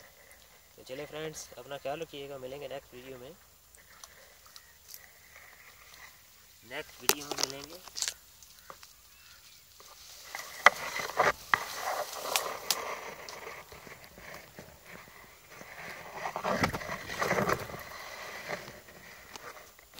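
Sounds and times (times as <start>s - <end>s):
dry grass rustling: 0.0s - 19.9s.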